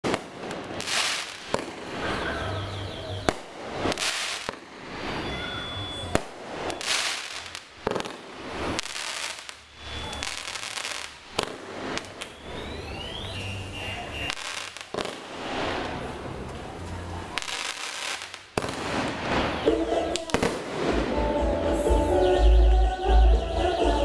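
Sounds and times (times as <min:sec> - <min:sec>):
fireworks bangs: 0:00.0 - 0:13.0, 0:13.6 - 0:21.6
fireworks hissing and crackling: 0:00.0 - 0:21.3.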